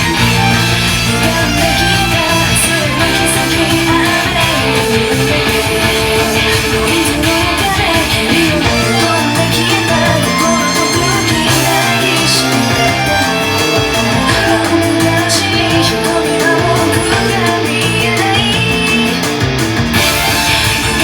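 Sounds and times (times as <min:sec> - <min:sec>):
rock music through car speakers: 0:00.0 - 0:21.0.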